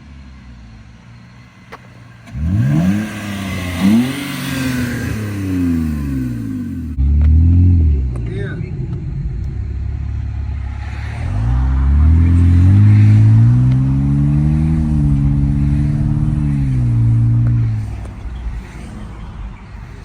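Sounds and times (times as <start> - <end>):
car engine rumbling and revving: 0.0 - 20.0.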